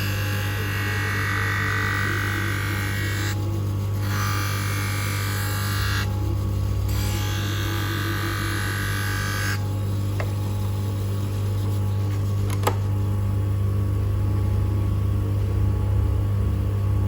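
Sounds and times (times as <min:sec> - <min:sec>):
machine motor humming: 0:00.0 - 0:16.4.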